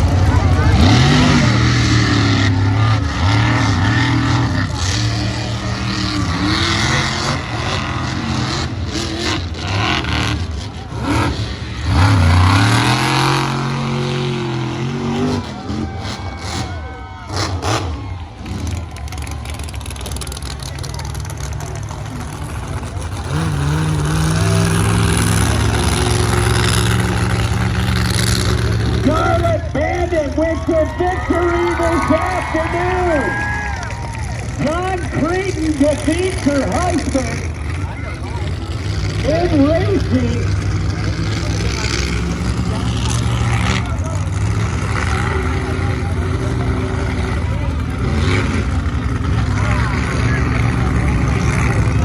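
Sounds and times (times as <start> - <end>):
truck engines revving: 0.0 - 52.0.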